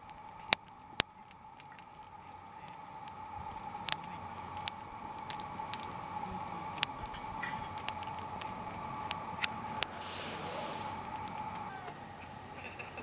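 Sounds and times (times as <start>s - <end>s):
firewood crackling and popping: 0.0s - 13.0s
low fire hiss: 0.0s - 13.0s.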